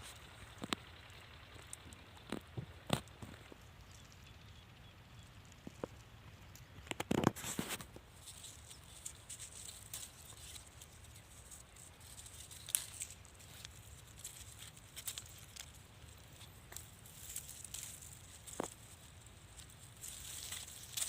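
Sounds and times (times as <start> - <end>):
light crackling and rustling: 0.0 - 4.3, 5.2 - 21.0.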